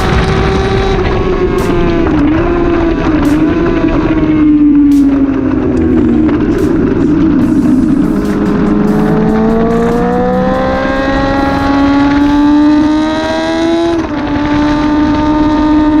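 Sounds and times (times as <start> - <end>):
engine accelerating hard: 0.0 - 16.0
gear change: 0.0 - 16.0.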